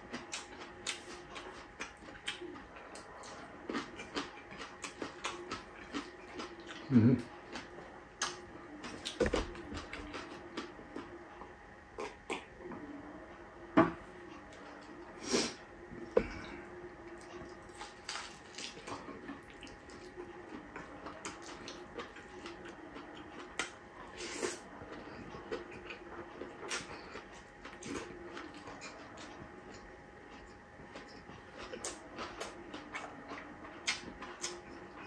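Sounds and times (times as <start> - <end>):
person chewing food: 0.0 - 12.6, 14.2 - 35.0
faint steady hum: 0.0 - 35.0.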